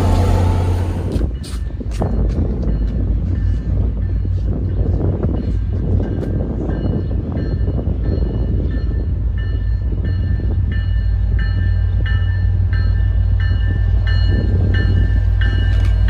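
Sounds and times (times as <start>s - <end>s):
locomotive bell ringing: 0.0s - 16.0s
low rumble of train: 0.0s - 16.0s.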